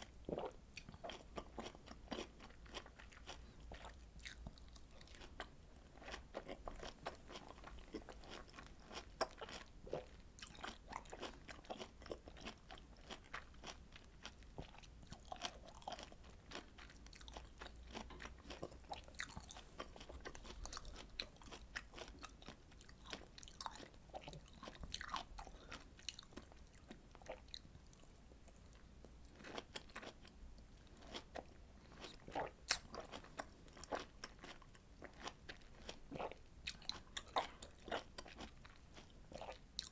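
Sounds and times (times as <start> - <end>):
person chewing fruit: 0.0 - 39.9.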